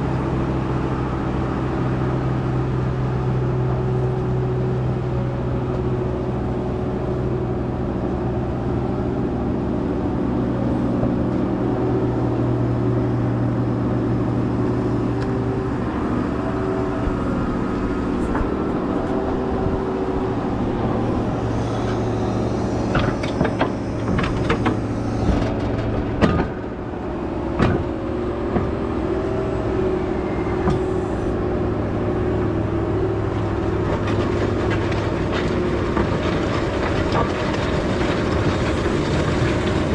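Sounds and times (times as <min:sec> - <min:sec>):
tractor engine running: 0:05.1 - 0:39.9.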